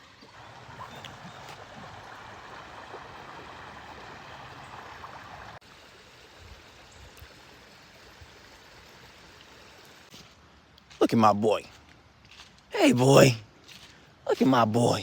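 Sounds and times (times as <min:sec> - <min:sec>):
stream water flowing: 0:00.0 - 0:11.6, 0:12.8 - 0:15.0.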